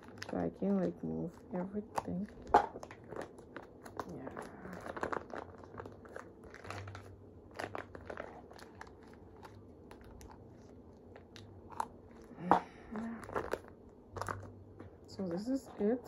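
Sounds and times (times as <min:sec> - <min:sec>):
plastic sachet crinkling: 0:00.0 - 0:14.6.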